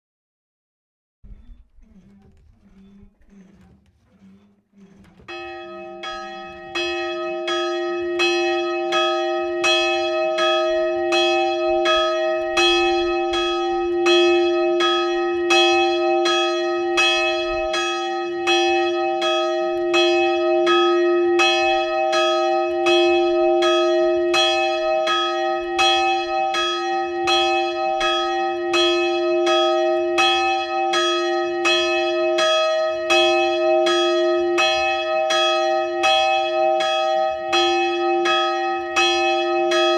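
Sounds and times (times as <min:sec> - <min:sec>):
church bell tolling: 0:05.1 - 0:39.9.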